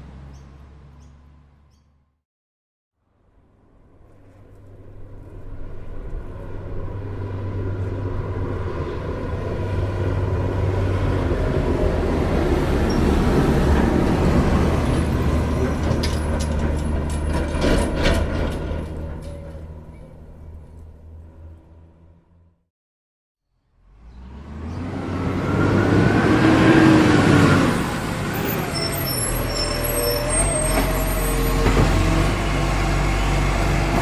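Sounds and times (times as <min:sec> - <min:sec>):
road noise: 0:00.0 - 0:02.2, 0:03.0 - 0:22.7, 0:23.5 - 0:34.0
diesel truck engine rumble: 0:04.4 - 0:22.6, 0:23.8 - 0:34.0.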